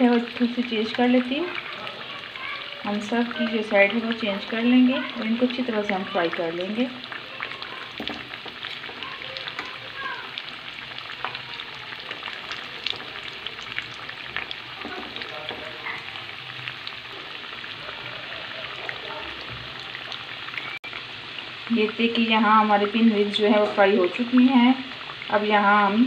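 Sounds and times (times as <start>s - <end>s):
food deep-frying in oil: 0.0s - 26.0s.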